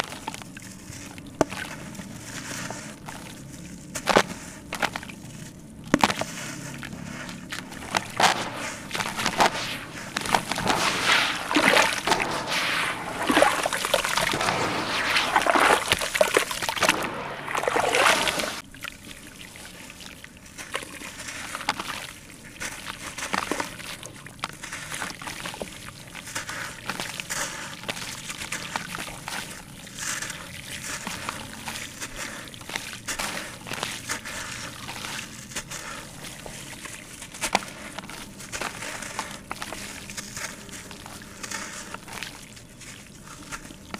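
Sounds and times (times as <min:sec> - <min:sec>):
small crackles: 0:00.0 - 0:19.1, 0:20.4 - 0:43.9
hands sloshing slurry in water: 0:00.0 - 0:43.9
water trickling and splashing: 0:00.0 - 0:43.9
wet sand crumbling: 0:00.0 - 0:43.9.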